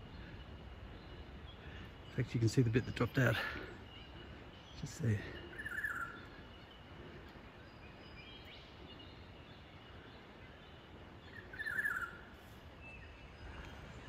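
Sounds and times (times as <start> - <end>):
wild birds calling: 0.0 - 14.0.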